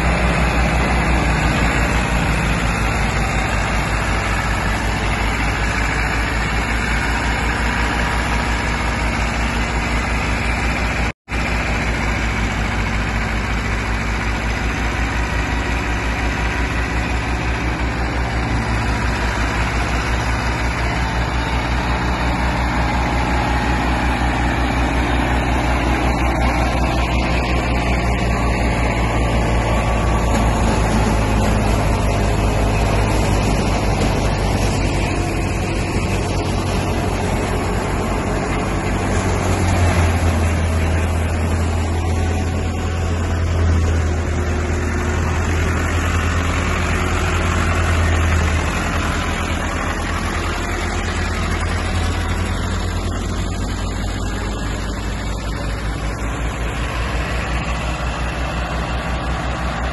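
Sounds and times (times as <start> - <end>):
thresher rushing noise: 0.0 - 59.9
tractor diesel engine running: 0.0 - 59.9.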